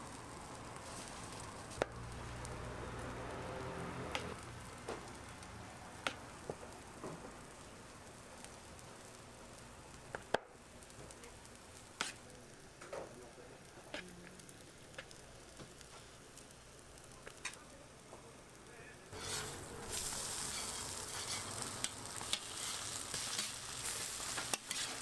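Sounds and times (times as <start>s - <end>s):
food sizzling on a griddle: 0.0s - 25.0s.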